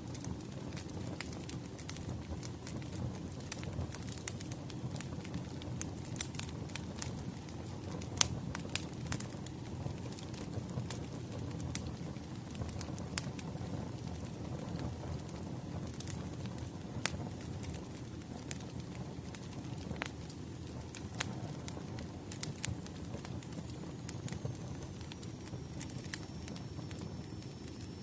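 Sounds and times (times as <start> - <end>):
low rumble of burning logs: 0.0 - 28.0
wood fire crackling and popping: 0.0 - 28.0.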